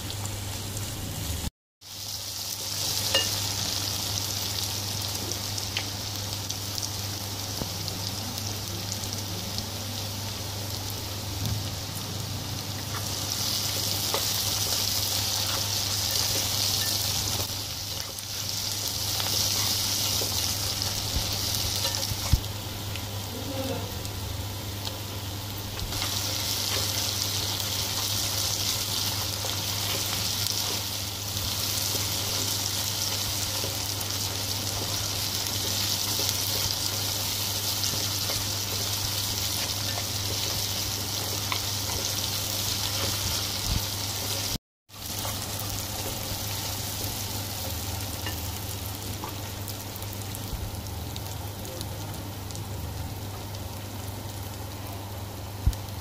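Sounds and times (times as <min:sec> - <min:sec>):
onions sizzling in oil: 0:00.0 - 0:56.0.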